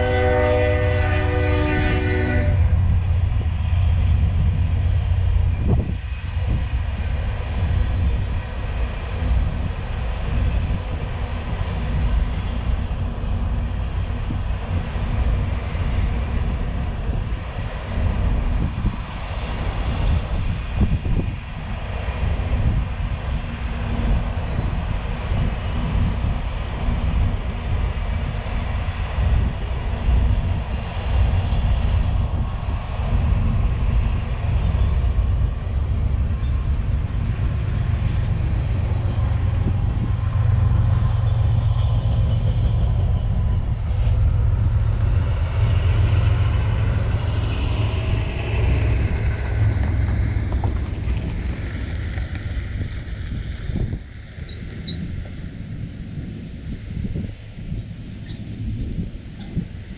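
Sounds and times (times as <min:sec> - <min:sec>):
freight train rumbling and clattering: 0:00.0 - 0:59.9.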